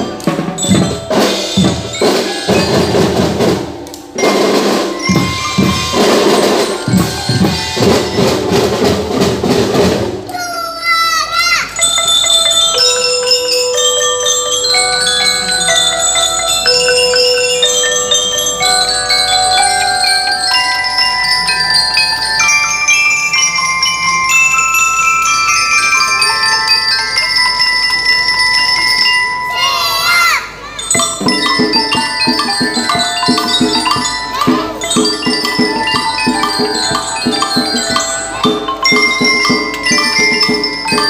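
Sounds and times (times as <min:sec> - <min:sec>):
mallet percussion melody: 0:00.0 - 0:10.5, 0:11.3 - 0:41.0.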